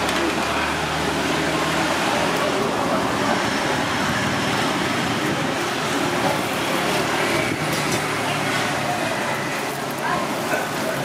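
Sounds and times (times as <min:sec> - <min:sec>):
street traffic passing: 0:00.0 - 0:11.0.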